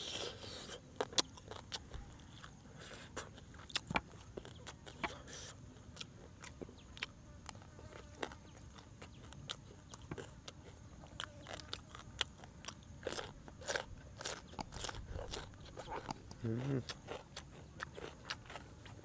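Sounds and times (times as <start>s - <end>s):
crunching and chewing: 0.0s - 19.0s
cucumber slice crunching: 0.2s - 5.2s, 5.9s - 19.0s.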